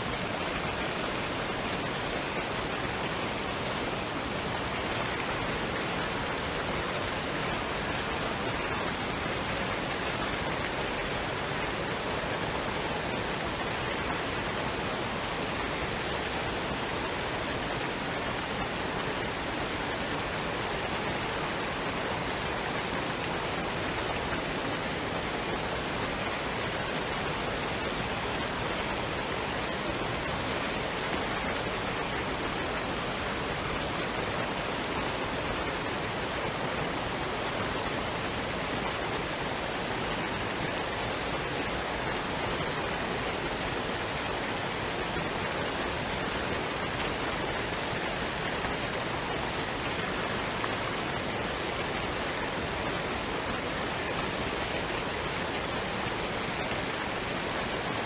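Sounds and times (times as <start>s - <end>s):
waterfall and stream rushing: 0.0s - 58.0s.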